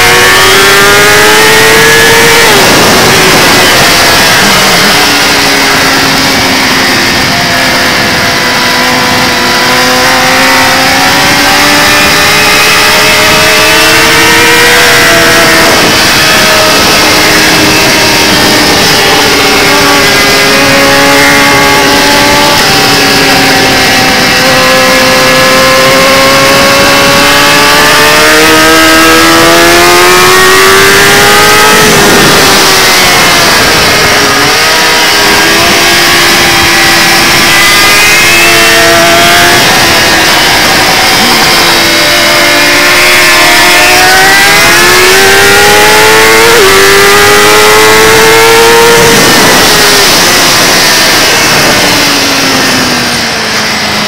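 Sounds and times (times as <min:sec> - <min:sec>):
motorcycle engine revving: 0:00.0 - 0:54.0
wind rushing: 0:00.0 - 0:54.0.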